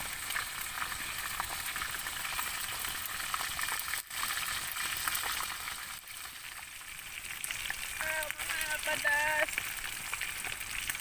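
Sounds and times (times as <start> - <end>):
campfire crackling: 0.0 - 11.0
chicken sizzling in oil: 0.0 - 11.0.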